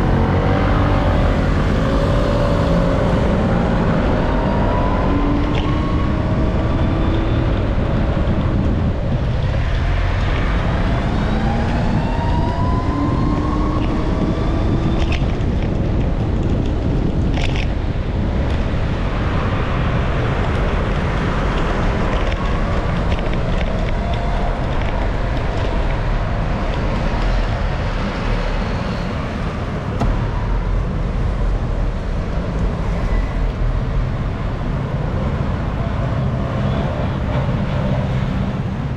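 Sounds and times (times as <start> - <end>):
vehicle engines accelerating: 0.0 - 38.9
wind over microphone: 0.0 - 38.9.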